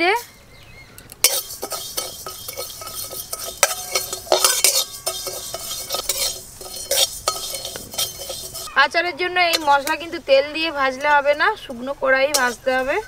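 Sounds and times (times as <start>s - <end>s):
metal spatula scraping pan: 1.2s - 13.0s.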